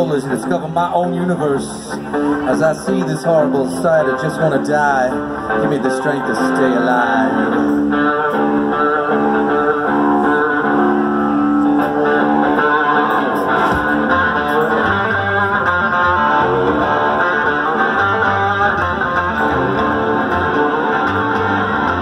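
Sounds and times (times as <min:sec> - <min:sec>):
bass guitar: 0:00.0 - 0:22.0
drums: 0:00.0 - 0:22.0
electric guitar chords: 0:00.0 - 0:22.0.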